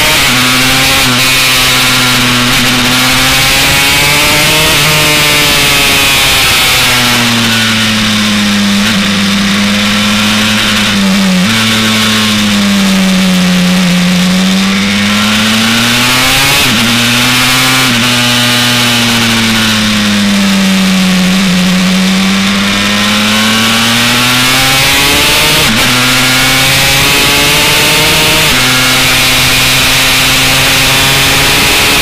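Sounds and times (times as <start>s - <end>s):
two-stroke race engine revving: 0.0s - 32.0s.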